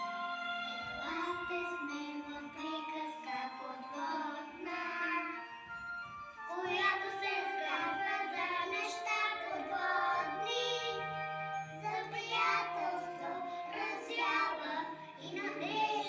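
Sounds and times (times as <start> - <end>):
children singing: 0.0 - 5.7, 6.4 - 16.0
instrumental backing music: 0.0 - 16.0.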